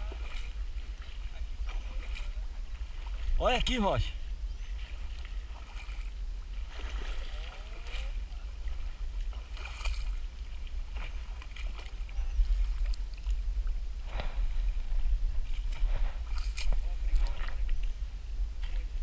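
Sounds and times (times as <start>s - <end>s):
water sloshing and splashing: 0.0s - 18.0s
steady low rumble: 0.0s - 19.0s.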